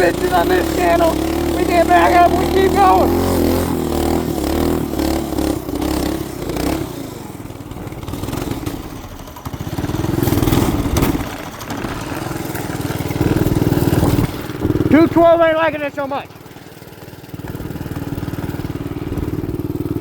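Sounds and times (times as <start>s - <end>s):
small engine running unevenly: 0.0s - 20.0s.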